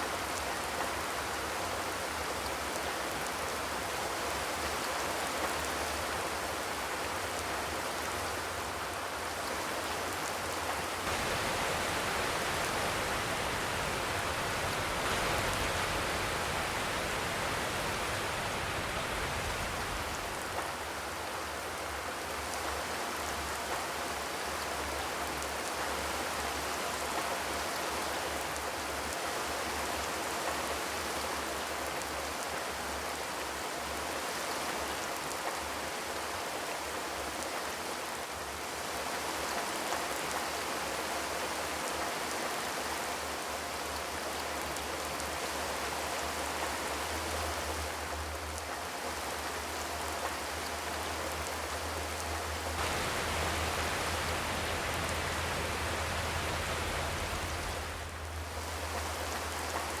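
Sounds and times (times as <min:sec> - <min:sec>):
rain on a metal roof: 0:00.0 - 1:00.0.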